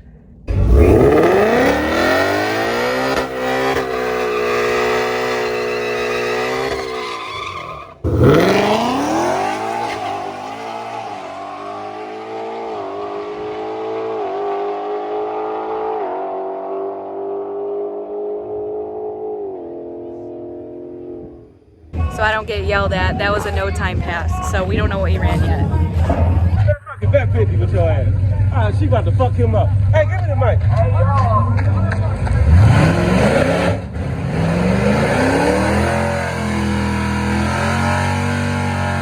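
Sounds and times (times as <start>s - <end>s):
drag car accelerating: 0.0s - 39.0s.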